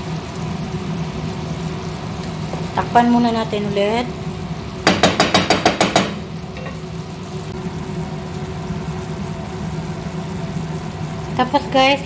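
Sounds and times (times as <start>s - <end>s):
faint food sizzling: 0.0s - 5.2s, 6.1s - 12.0s.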